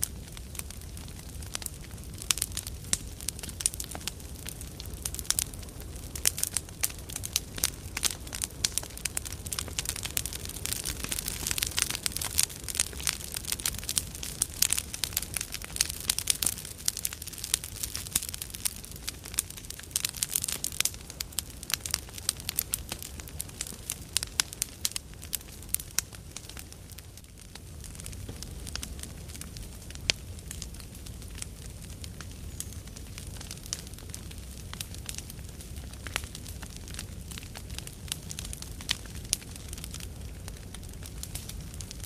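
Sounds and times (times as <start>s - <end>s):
campfire crackling and popping: 0.0s - 42.0s
low fire rumble: 0.0s - 42.0s.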